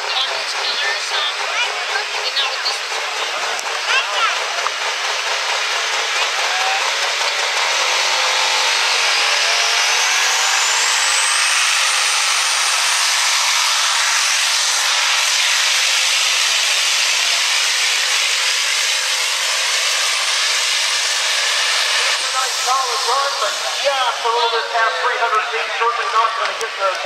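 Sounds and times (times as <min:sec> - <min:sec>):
diesel engine roaring under load: 0:00.0 - 0:27.0.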